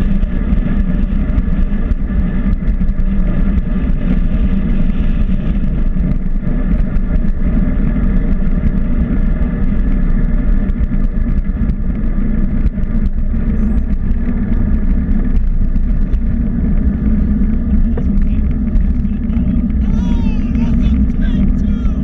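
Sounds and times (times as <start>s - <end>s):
vehicle cruising drone: 0.0s - 22.0s
wind rumbling on microphone: 0.0s - 22.0s.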